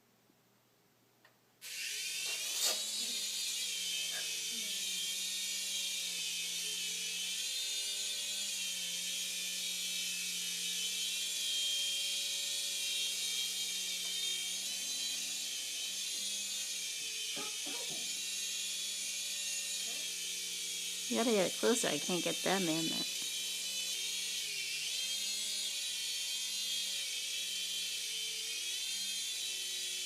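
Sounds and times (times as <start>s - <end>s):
toy helicopter rotors whirring: 1.6s - 30.0s.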